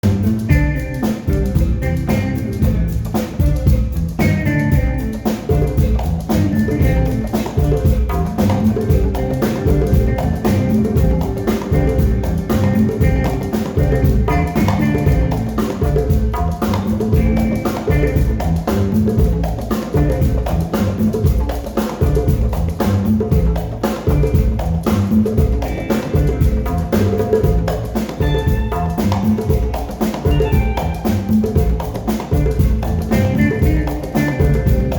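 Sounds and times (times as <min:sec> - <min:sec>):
live band playing groove: 0:00.0 - 0:34.9.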